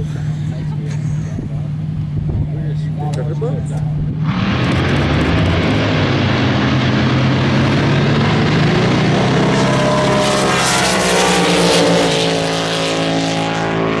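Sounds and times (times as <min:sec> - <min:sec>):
boat engine running hard: 0:00.0 - 0:14.0.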